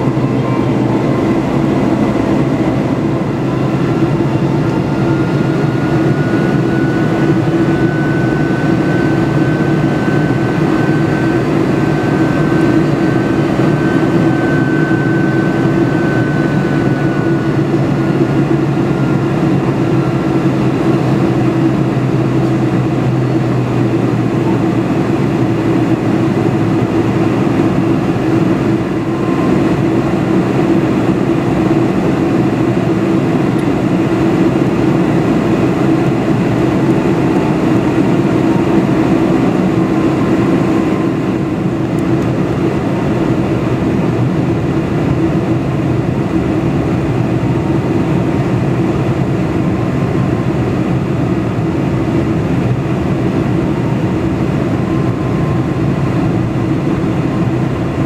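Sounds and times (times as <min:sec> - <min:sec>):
aircraft cabin engine roar: 0:00.0 - 0:58.0.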